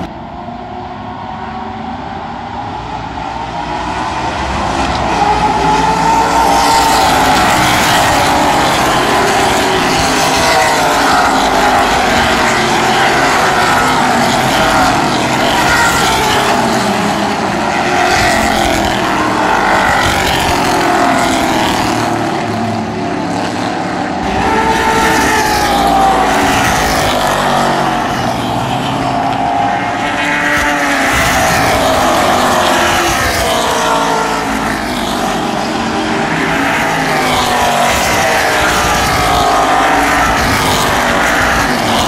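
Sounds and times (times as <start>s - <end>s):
racing car engines passing: 0.0s - 42.0s.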